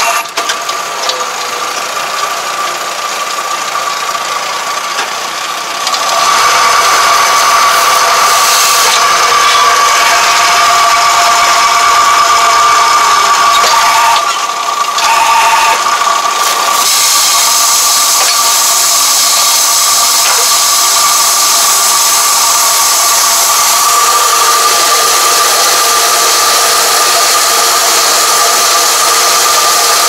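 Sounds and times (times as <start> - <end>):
hydraulic whine: 0.0 - 30.0
tractor engine running: 0.0 - 30.0.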